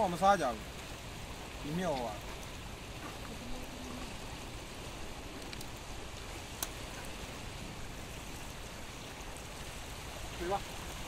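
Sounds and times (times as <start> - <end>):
water rushing on rocky shore: 0.0 - 11.0.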